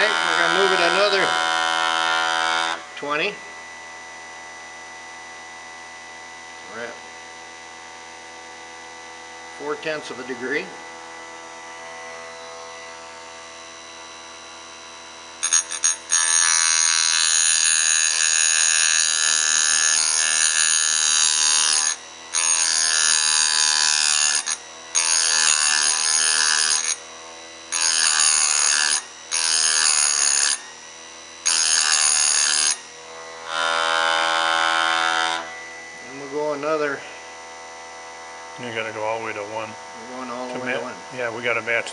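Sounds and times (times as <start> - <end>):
grinder wheel grinding steel: 0.0 - 3.5, 9.5 - 41.9
electric grinder humming: 0.0 - 41.9.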